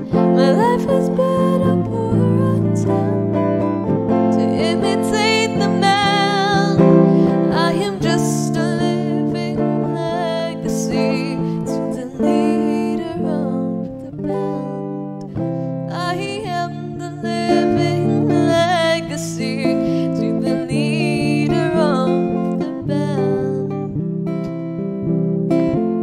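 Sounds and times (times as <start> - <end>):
girl singing with vibrato: 0.0 - 24.0
clean electric guitar: 0.0 - 26.0.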